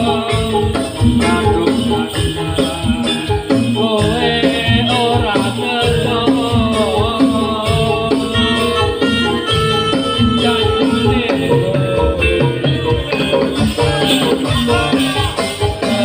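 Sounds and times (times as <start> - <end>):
drums beating: 0.0 - 16.0
wavering melody line: 0.0 - 16.0.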